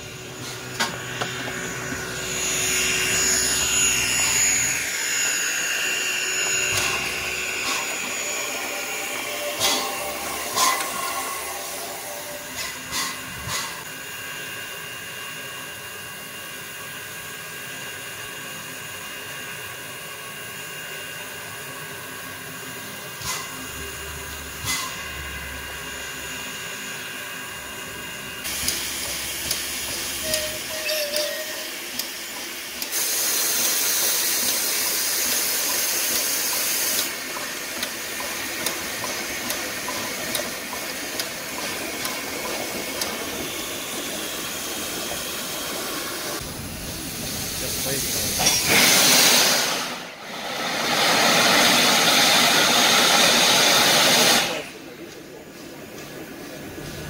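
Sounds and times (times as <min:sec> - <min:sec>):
steam locomotive hissing steam: 0:00.0 - 0:57.0.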